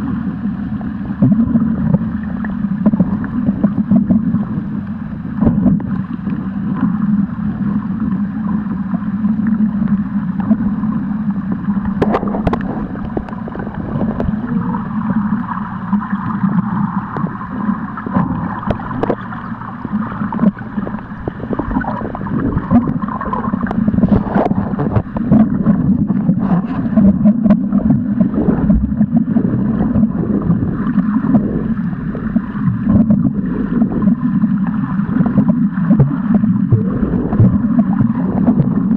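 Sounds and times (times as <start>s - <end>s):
low underwater hum: 0.0s - 38.9s
swirling water: 0.0s - 38.9s.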